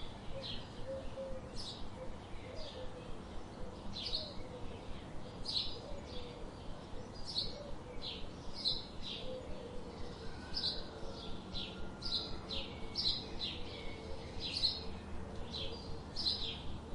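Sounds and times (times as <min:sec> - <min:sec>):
faint outdoor background noise: 0:00.0 - 0:16.9
songbirds chirping: 0:00.0 - 0:16.9.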